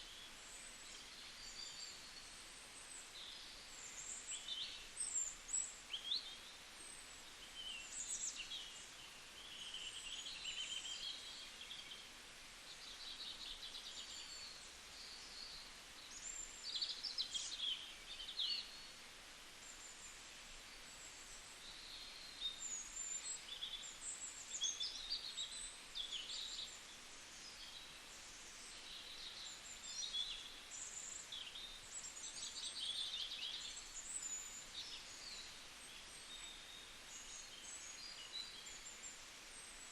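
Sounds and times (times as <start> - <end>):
small birds chirping and trilling: 0.0 - 19.0, 19.6 - 39.9
faint outdoor hiss: 0.0 - 39.9.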